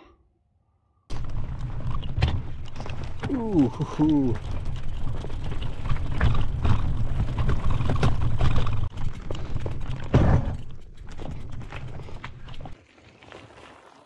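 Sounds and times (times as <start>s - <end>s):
bike rattling over rock: 1.1s - 14.0s.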